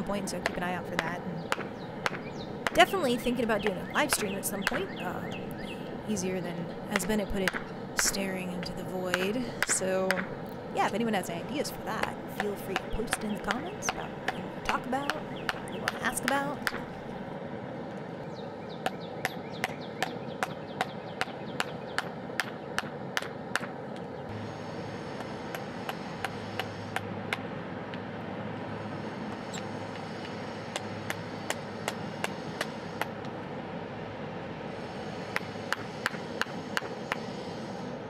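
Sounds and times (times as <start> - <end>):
steady background rush: 0.0 - 38.0.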